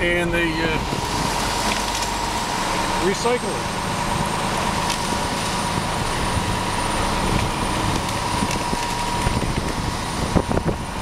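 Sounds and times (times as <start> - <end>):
diesel truck engine running: 0.0 - 11.0
high whine: 0.0 - 11.0.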